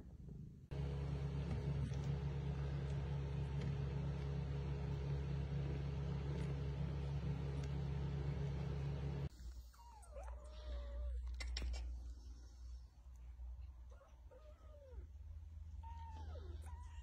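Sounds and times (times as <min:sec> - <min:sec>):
steady low hum: 0:00.0 - 0:14.1.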